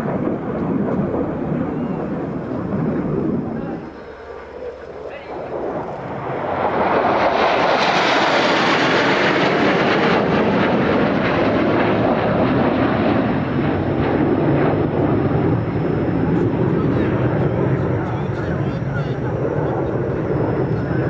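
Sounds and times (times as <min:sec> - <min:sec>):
jet passing: 0:00.0 - 0:21.0.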